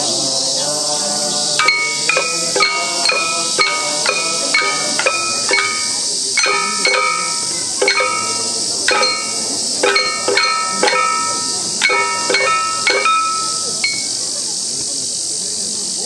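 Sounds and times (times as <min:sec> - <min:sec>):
cicadas droning: 0:00.0 - 0:16.0
metallic handheld percussion strokes: 0:01.5 - 0:14.6.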